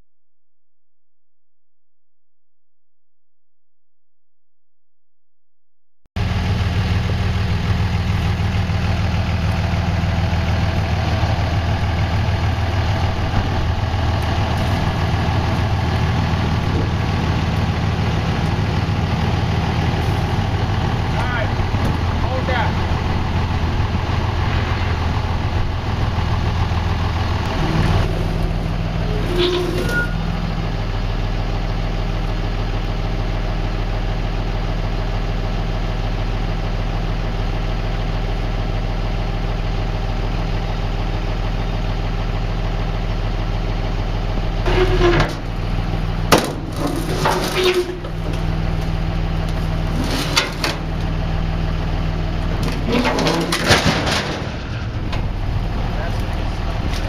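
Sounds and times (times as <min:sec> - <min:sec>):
vehicle engine idling: 0:06.2 - 0:57.0.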